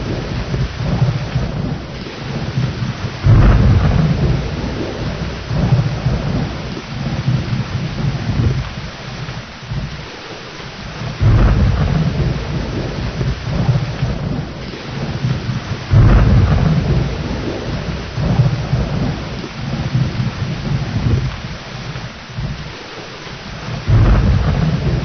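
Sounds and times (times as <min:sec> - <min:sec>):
rolling thunder: 0:00.0 - 0:10.2, 0:10.8 - 0:22.8, 0:23.5 - 0:25.0
thunderclap: 0:00.0 - 0:10.2, 0:10.8 - 0:22.8, 0:23.5 - 0:25.0
steady rain: 0:00.0 - 0:25.0.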